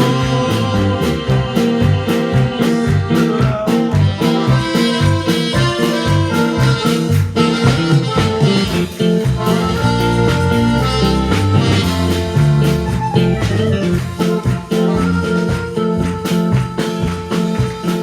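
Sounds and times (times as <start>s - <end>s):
instrumental worship band music: 0.0s - 18.0s.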